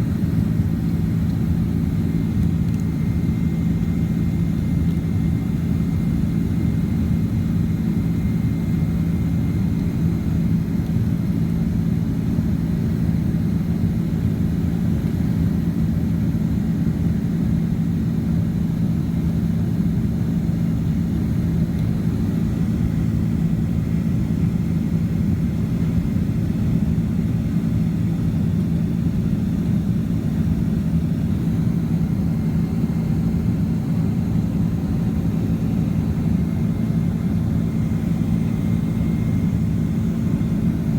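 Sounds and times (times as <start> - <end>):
jet engine cabin roar: 0.0 - 13.3, 19.2 - 40.9.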